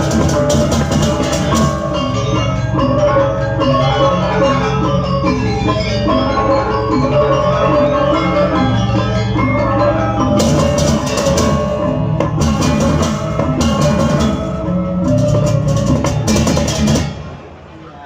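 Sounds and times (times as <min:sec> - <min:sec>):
clashing cymbals: 0:00.0 - 0:17.6
gamelan gong-chimes and gongs: 0:00.0 - 0:17.7
drums: 0:00.0 - 0:17.8.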